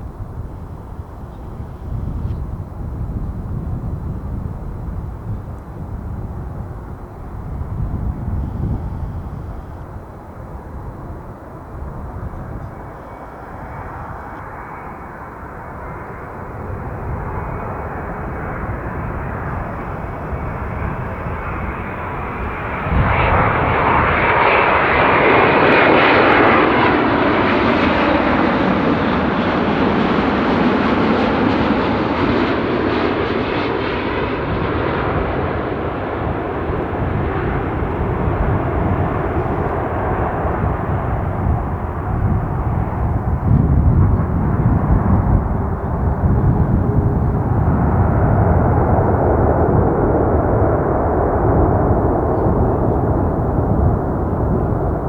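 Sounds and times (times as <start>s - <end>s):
jet engines passing: 0.0s - 55.0s.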